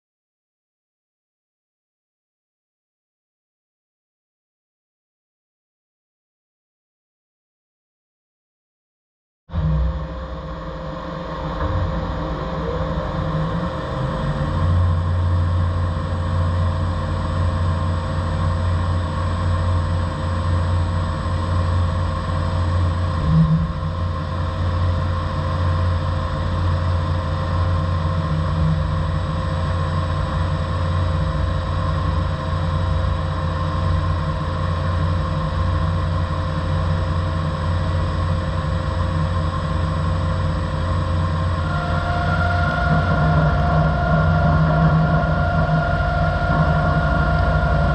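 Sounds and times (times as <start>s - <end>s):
machine drone with whining tones: 9.5s - 47.9s
rising machine whine: 9.5s - 47.9s.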